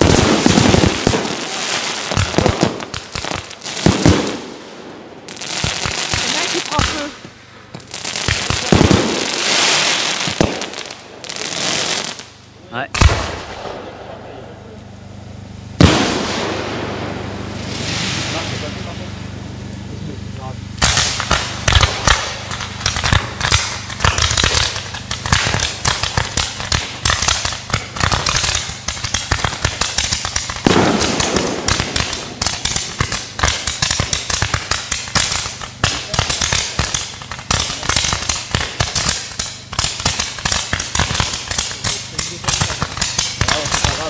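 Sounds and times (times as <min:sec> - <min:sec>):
fireworks shots and crackling: 0:00.0 - 0:44.0.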